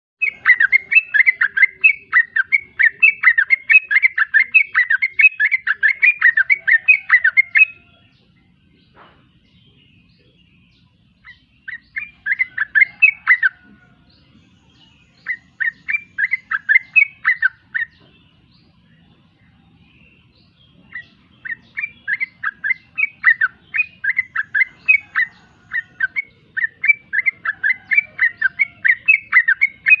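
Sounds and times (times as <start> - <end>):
bulbul singing: 0.2 - 30.0.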